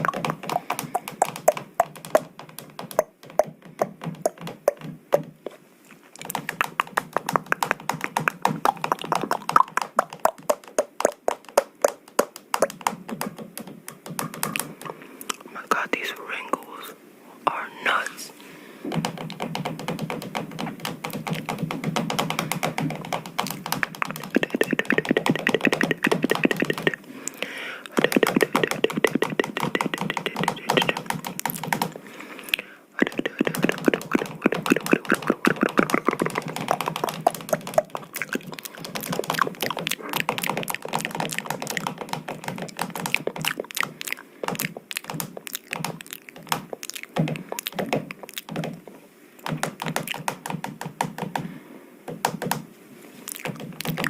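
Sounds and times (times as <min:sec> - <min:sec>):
rapid tapping on hard object: 0:00.0 - 0:05.5, 0:06.2 - 0:14.9, 0:18.9 - 0:27.0, 0:27.9 - 0:32.0, 0:33.0 - 0:48.8, 0:49.4 - 0:51.5, 0:52.1 - 0:52.7, 0:53.3 - 0:54.0.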